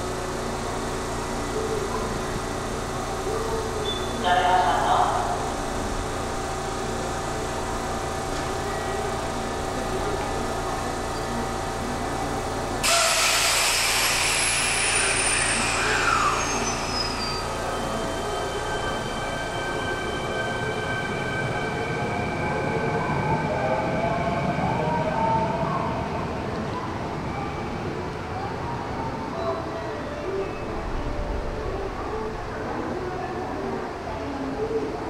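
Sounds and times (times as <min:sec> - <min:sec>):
train rolling noise: 0:00.0 - 0:35.0.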